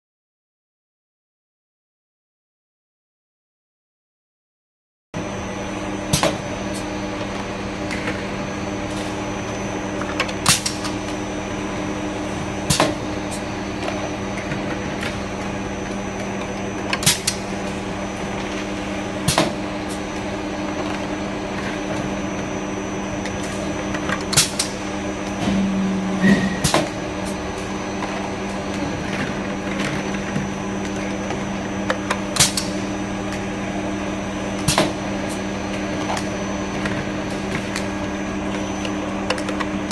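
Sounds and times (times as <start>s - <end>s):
filling machine humming: 5.2s - 39.9s.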